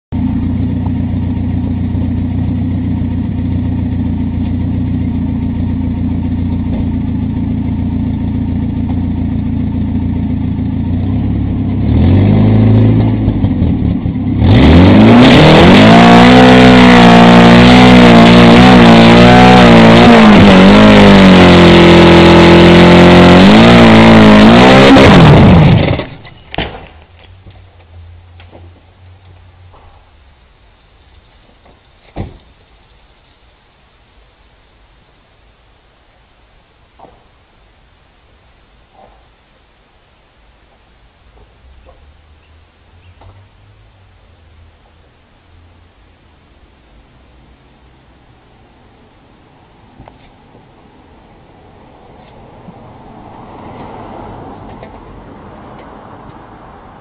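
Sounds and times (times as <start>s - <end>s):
car engine idling and revving: 0.1s - 32.7s, 38.5s - 57.0s.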